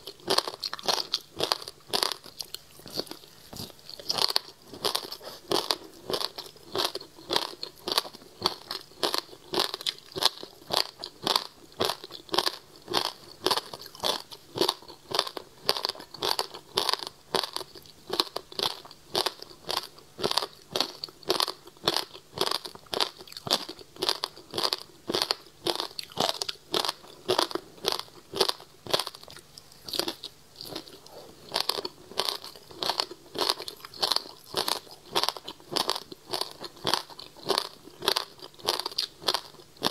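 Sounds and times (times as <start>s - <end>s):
crunching frozen fruit while chewing: 0.0s - 39.9s.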